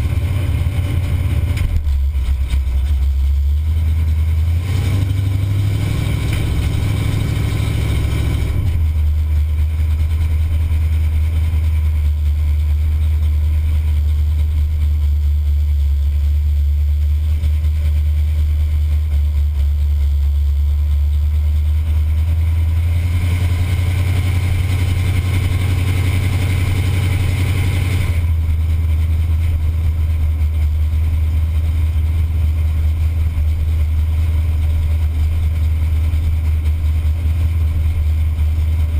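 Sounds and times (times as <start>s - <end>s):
car engine running low: 0.0s - 38.9s.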